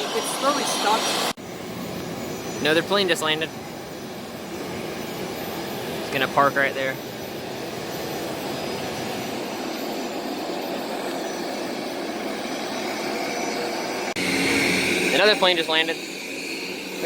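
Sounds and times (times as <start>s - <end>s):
high-pitched jet whine: 0.0s - 17.0s
jet turbine engines running: 0.0s - 17.0s.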